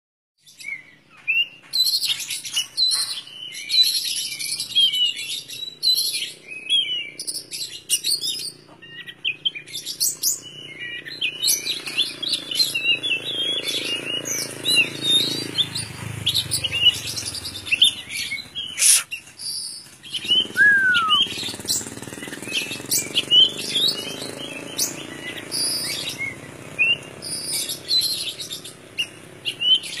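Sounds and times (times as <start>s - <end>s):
bird singing chirps and trills: 0.4s - 30.0s.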